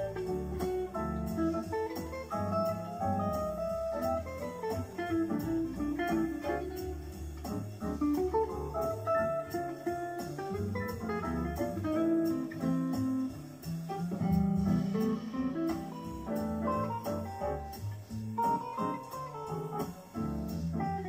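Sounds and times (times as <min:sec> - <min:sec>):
bass: 0:00.0 - 0:21.0
drums: 0:00.0 - 0:21.0
electric guitar jazz line: 0:00.0 - 0:21.0
high ticking beat: 0:00.0 - 0:21.0.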